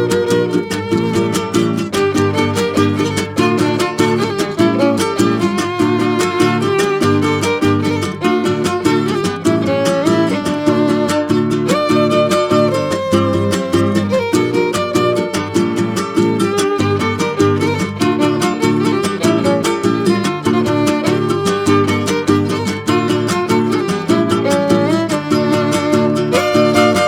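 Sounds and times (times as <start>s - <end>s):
plucked-string accompaniment: 0.0s - 27.0s
violin melody: 0.0s - 27.0s.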